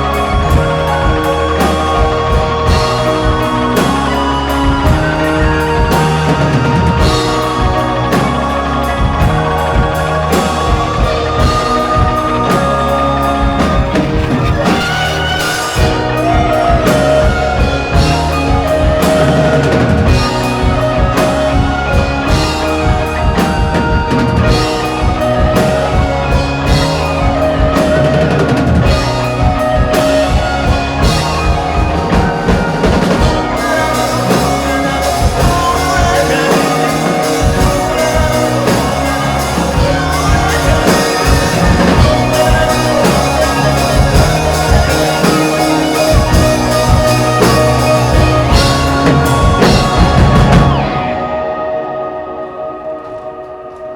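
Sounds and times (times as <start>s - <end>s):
steady drum beat: 0.0s - 51.2s
cymbals washing: 0.0s - 51.9s
rock band playing live: 0.0s - 53.4s.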